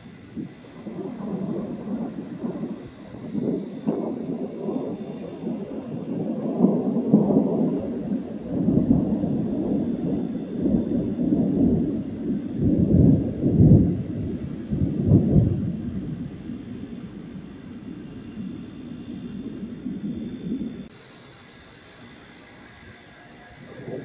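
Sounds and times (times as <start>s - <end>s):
thunder rumbling: 0.0s - 20.9s, 22.3s - 24.0s.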